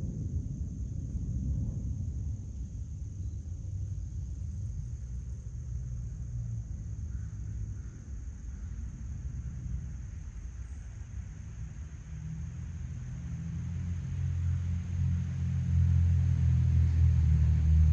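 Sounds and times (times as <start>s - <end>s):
low steady rumble: 0.0s - 17.9s.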